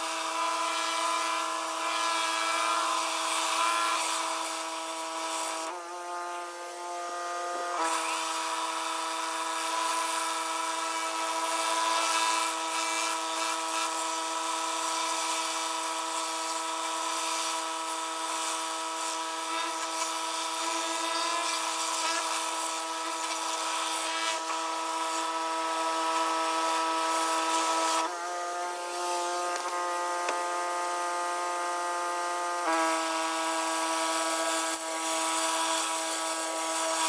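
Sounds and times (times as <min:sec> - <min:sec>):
pressure washer whine: 0:00.0 - 0:37.0.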